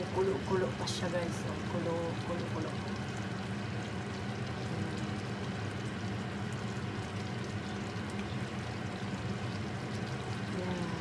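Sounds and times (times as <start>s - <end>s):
stew bubbling in a pot: 0.0s - 11.0s.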